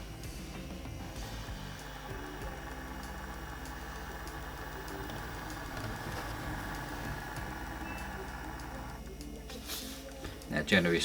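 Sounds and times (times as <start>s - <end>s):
model locomotives humming: 0.0s - 11.0s.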